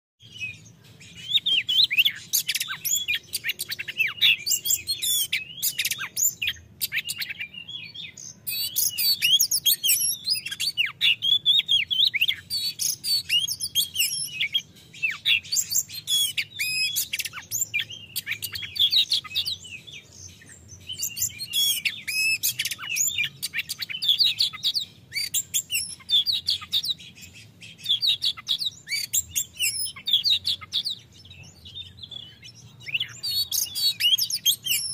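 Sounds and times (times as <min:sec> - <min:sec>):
bird singing whistled notes: 0:00.2 - 0:34.9.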